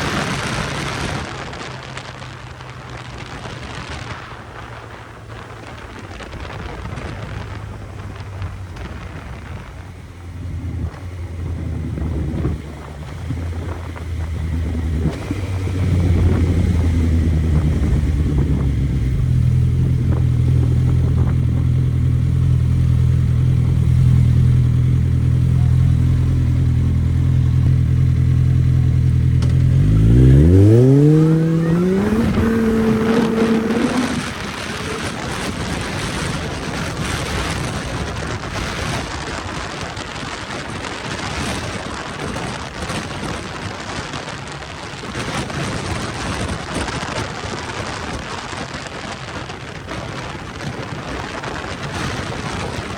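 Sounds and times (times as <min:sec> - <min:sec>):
motorcycle engine revving: 0:00.0 - 0:43.4
steady rushing noise: 0:00.0 - 0:52.9.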